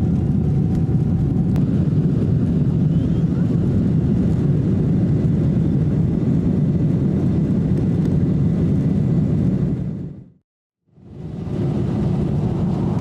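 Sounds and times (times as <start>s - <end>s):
jet airliner rushing noise: 0.0s - 10.2s, 11.0s - 13.0s.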